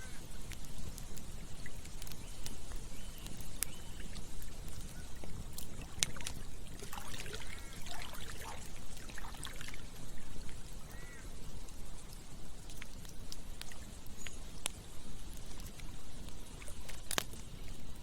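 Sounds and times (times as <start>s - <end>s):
campfire crackling and popping: 0.0s - 18.0s
gurgling stream: 0.0s - 18.0s.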